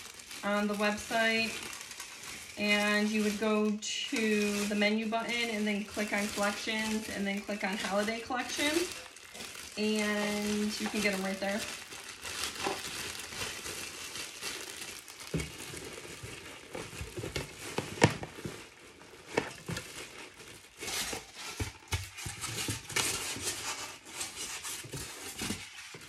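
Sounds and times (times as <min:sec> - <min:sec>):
plastic wrapping crinkling: 0:00.0 - 0:26.0.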